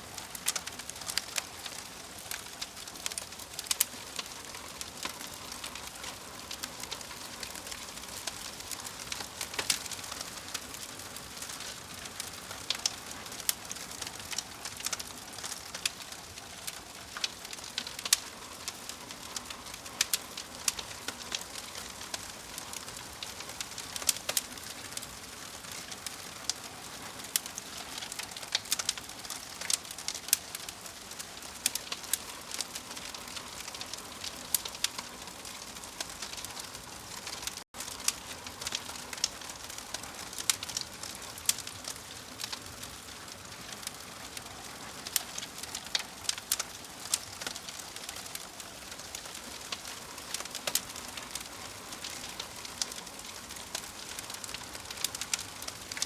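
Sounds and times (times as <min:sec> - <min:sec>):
steady hiss of fire: 0:00.0 - 0:56.0
wood fire crackling and popping: 0:00.0 - 0:56.0.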